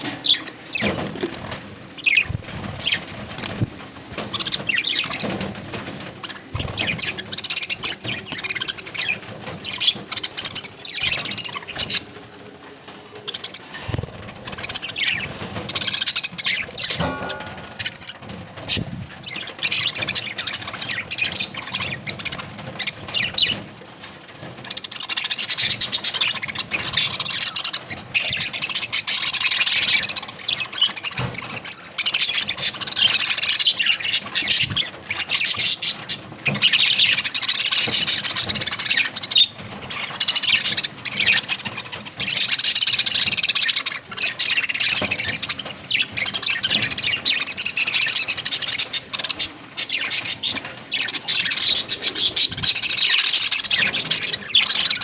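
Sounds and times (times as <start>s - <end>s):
budgerigars chattering and chirping: 0.0s - 12.2s, 12.8s - 23.7s, 24.4s - 55.0s.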